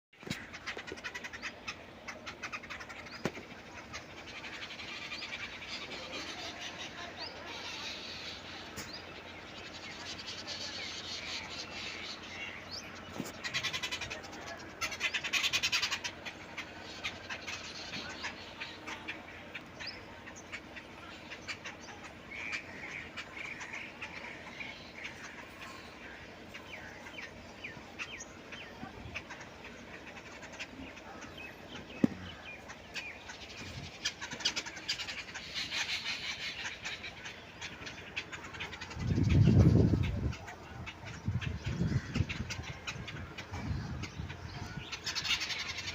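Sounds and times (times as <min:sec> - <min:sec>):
birds chirping and calling: 0:00.2 - 0:45.9.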